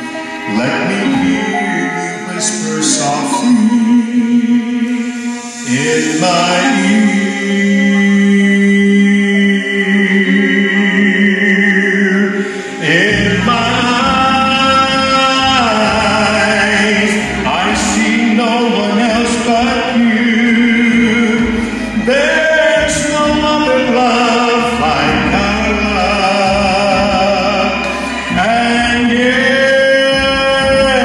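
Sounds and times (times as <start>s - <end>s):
accompanying music: 0.0s - 31.0s
man singing a slow love song: 0.3s - 31.0s.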